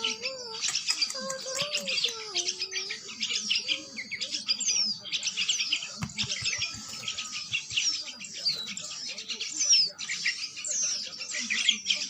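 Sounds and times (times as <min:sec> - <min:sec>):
fledgling songbirds chirping: 0:00.0 - 0:12.0.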